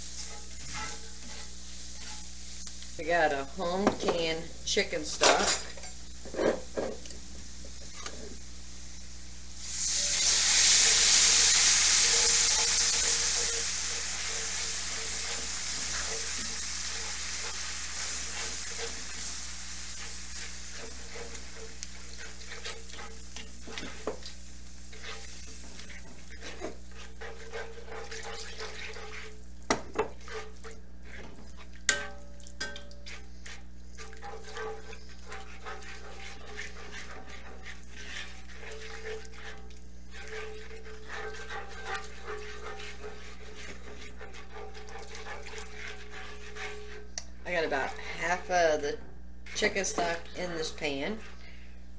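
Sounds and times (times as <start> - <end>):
liquid sizzling in a hot pan: 0.0 - 3.8, 4.6 - 48.4.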